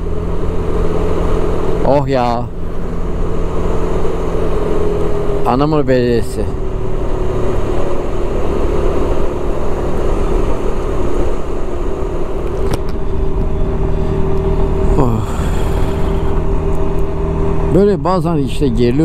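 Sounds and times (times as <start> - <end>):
road noise: 0.0 - 19.0
scooter engine cruising: 0.0 - 19.0.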